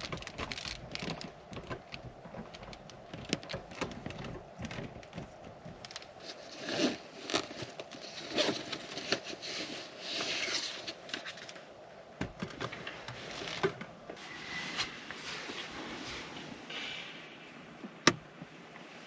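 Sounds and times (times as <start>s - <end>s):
rustling and crinkling: 0.0s - 16.8s.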